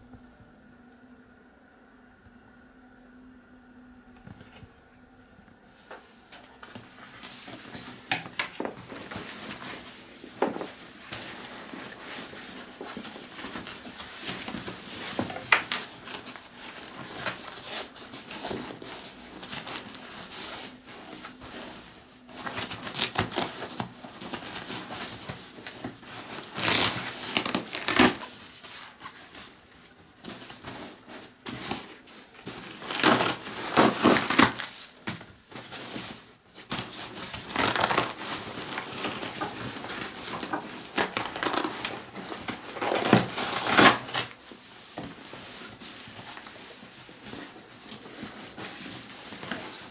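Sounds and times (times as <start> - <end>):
packaging crinkling and rustling: 6.4 - 49.9.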